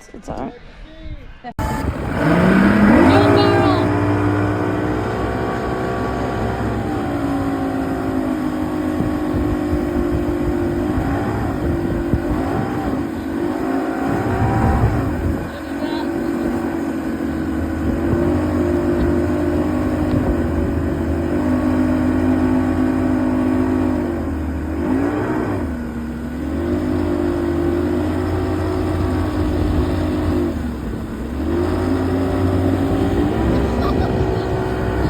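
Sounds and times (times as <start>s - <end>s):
engine running: 1.6s - 35.0s.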